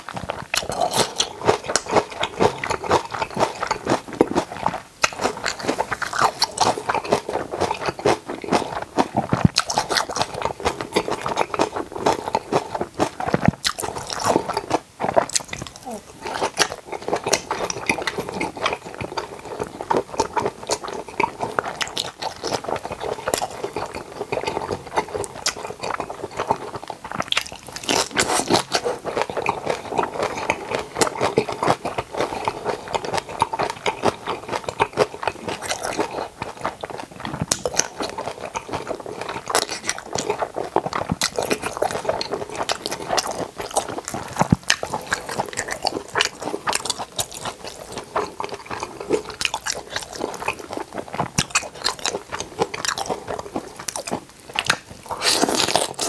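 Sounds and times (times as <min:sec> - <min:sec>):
wet chewing and crunching: 0:00.0 - 0:56.0.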